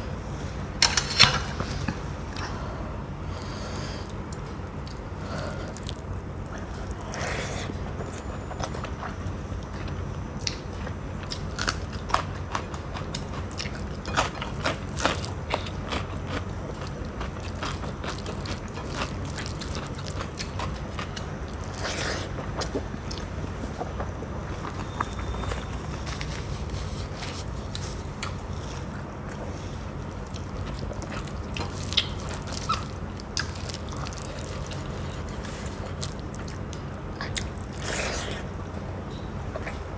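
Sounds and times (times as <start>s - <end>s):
steady low hum: 0.0s - 39.9s
person chewing food: 4.0s - 38.6s.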